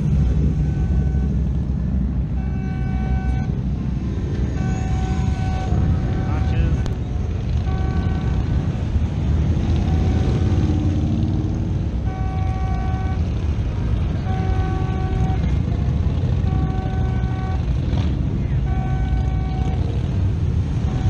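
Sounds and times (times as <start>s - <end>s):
motorcycles passing: 0.0s - 21.0s
street traffic rumble: 0.0s - 21.0s.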